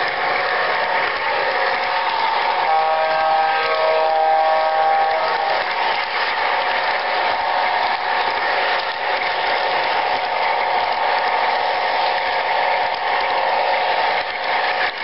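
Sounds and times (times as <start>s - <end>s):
model train motor whine: 0.0s - 15.0s
model train wheels clattering: 0.0s - 15.0s.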